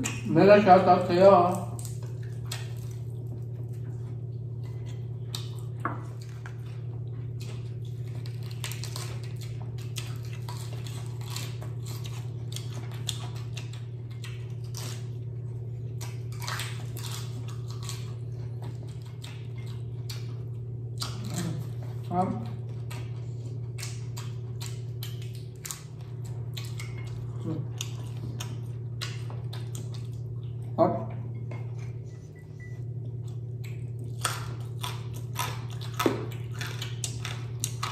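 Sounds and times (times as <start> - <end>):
crunching and chewing crispy food: 0.0 - 37.9
low hum: 0.0 - 37.9.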